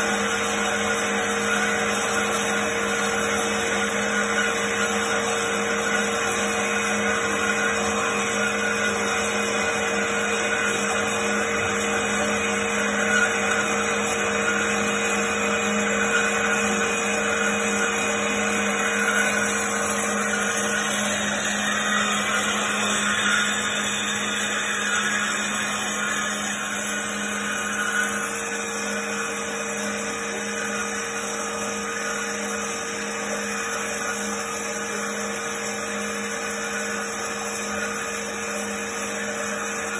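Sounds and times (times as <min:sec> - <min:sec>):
band saw humming and whining: 0:00.0 - 0:39.9.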